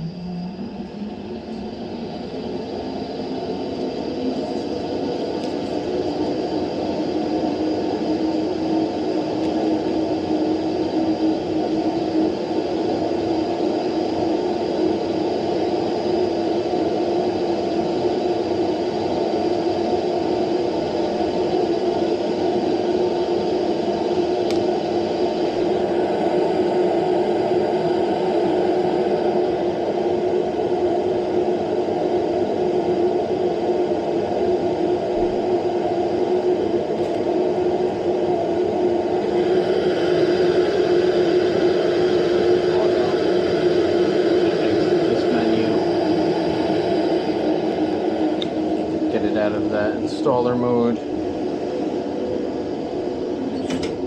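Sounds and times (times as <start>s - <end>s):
gas boiler blower whirring: 0.0s - 54.0s.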